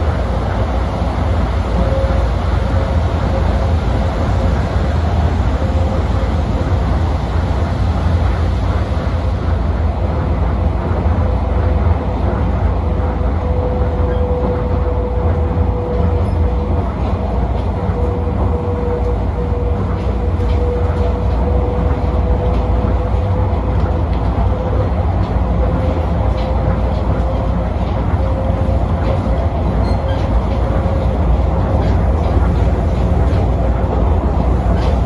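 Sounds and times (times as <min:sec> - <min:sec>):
train cabin deep rumble: 0:00.0 - 0:35.0.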